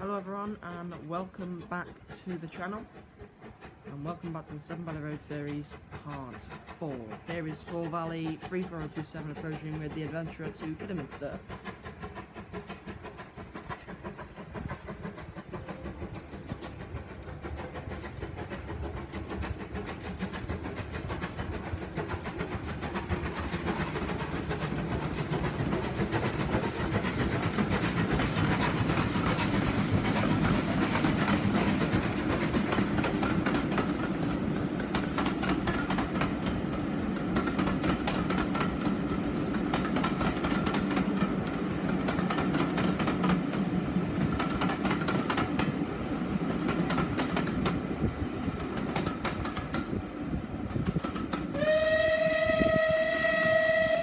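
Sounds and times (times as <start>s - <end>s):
steam locomotive rumble: 0.0s - 54.0s
wheels clattering on rails: 0.0s - 54.0s.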